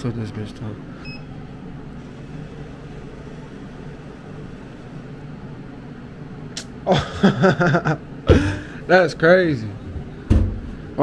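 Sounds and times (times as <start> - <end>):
vending machine hum: 0.0 - 11.0.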